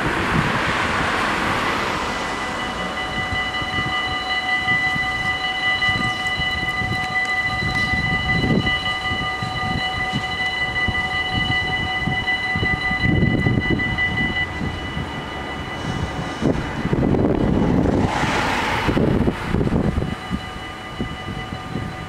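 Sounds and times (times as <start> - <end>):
level-crossing warning bells ringing: 0.0 - 22.0.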